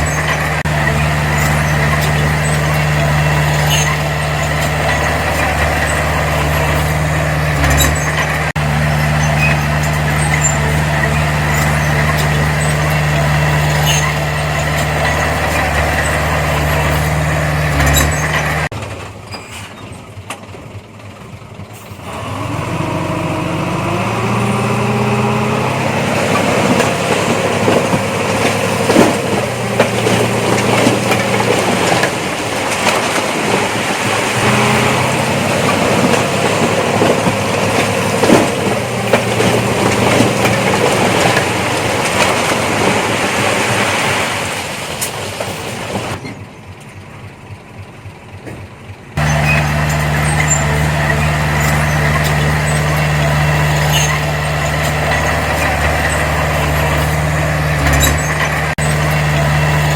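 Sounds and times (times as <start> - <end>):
metallic clanks and squeaks: 0.0 - 20.2, 25.2 - 42.9, 46.0 - 47.0, 48.4 - 59.9
diesel engine of heavy machinery: 0.0 - 59.9.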